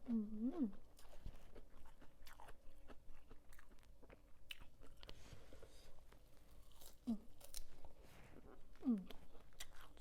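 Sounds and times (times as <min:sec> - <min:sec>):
crunching and chewing squid: 0:00.8 - 0:08.0, 0:08.6 - 0:10.0.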